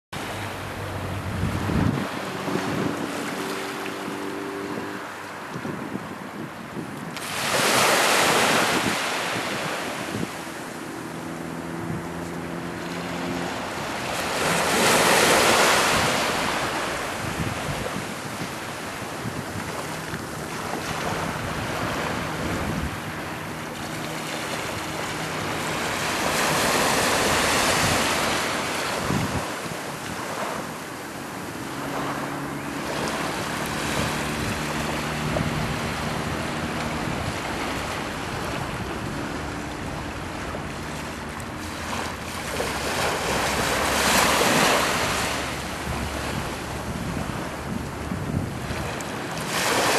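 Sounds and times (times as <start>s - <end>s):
small waves on sandy beach: 0.2s - 49.9s.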